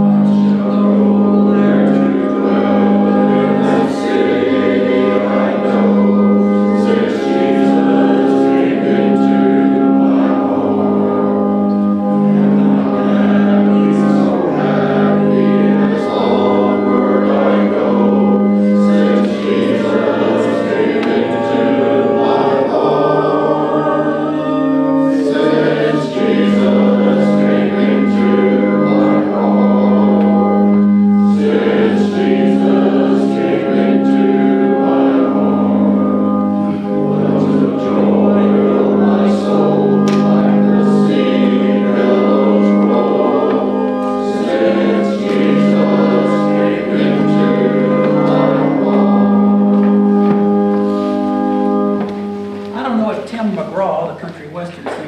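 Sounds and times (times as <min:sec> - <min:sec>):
group singing a hymn: 0:00.0 - 0:52.8
organ accompaniment: 0:00.0 - 0:55.0.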